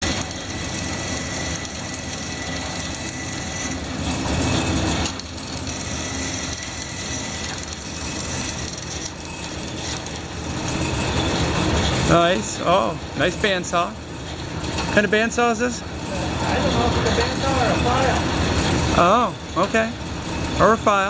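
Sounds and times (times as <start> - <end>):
machinery rumbling: 0.0 - 21.0
thin high whine: 0.0 - 21.0.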